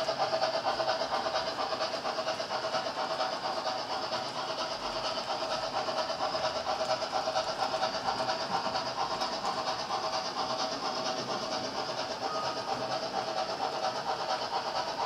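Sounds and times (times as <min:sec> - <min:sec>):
model train wheels rattling on rails: 0:00.0 - 0:15.0.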